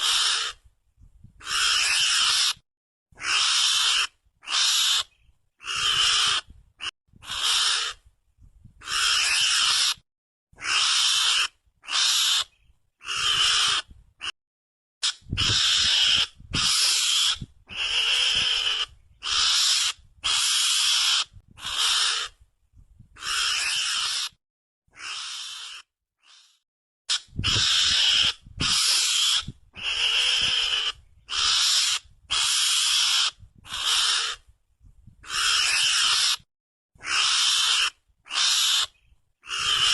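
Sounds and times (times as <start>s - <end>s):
harsh high mongoose squeals: 0.0s - 0.6s, 1.4s - 2.6s, 3.2s - 6.5s, 7.2s - 8.0s, 8.8s - 10.0s, 10.6s - 13.9s, 15.0s - 22.4s, 23.2s - 24.4s, 25.0s - 34.4s, 35.2s - 39.9s.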